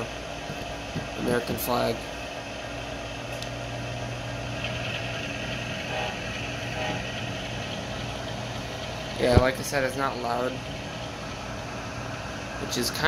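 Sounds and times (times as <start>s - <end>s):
diesel engine drone through small speaker: 1.0s - 13.0s
faint high whine: 1.0s - 13.0s.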